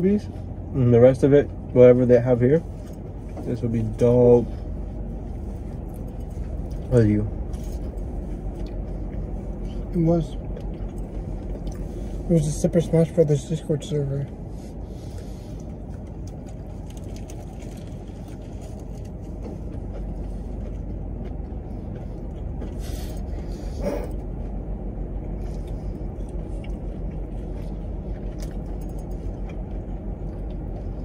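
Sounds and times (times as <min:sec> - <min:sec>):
low rumble inside car cabin: 0:00.0 - 0:31.0.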